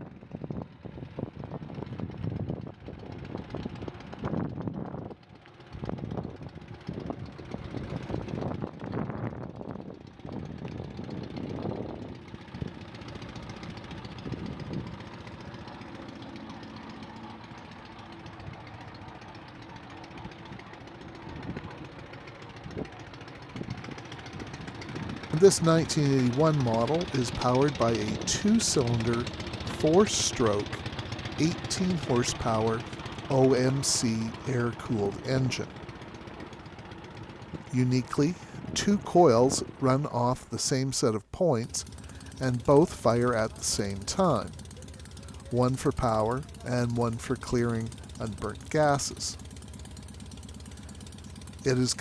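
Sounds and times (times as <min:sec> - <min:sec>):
engine running unevenly then idling: 0:00.0 - 0:52.0.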